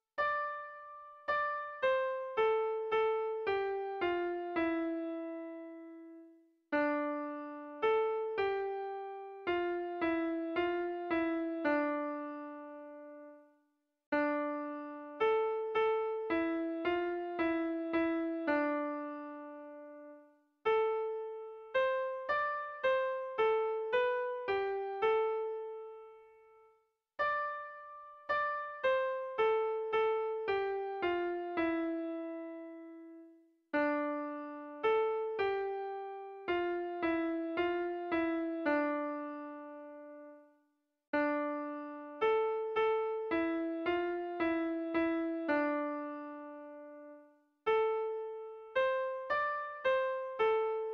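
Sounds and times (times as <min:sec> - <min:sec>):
slow piano melody: 0:00.0 - 0:50.9.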